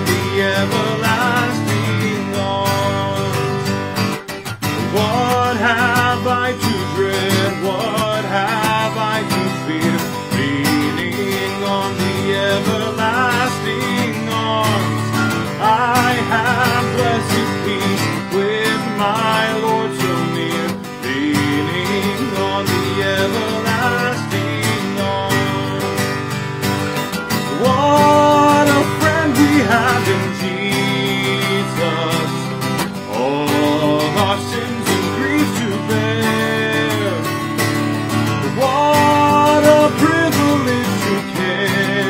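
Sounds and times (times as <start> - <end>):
man singing a hymn: 0.0 - 3.8, 4.8 - 26.4, 27.4 - 37.6, 38.3 - 42.0
strummed acoustic guitar: 0.0 - 42.0.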